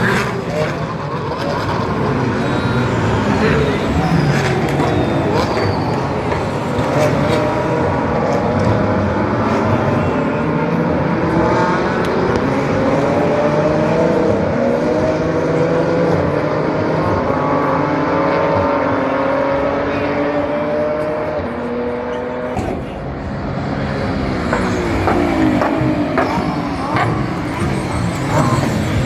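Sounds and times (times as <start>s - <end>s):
car passing by: 0.0s - 29.0s
race car engines running hard: 0.0s - 29.0s.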